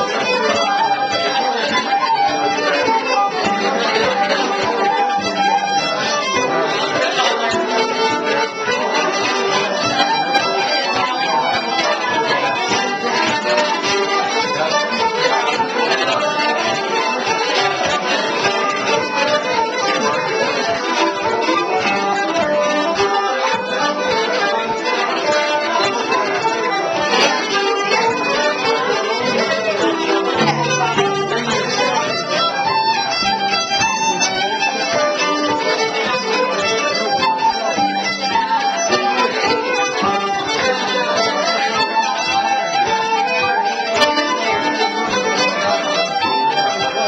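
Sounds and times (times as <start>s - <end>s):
small band playing instrumental: 0.0s - 47.0s.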